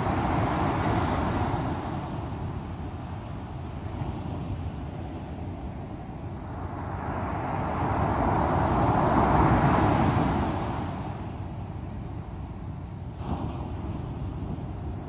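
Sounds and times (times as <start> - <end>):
low rumble of surf: 0.0 - 15.0
ocean waves breaking on shore: 0.0 - 15.0.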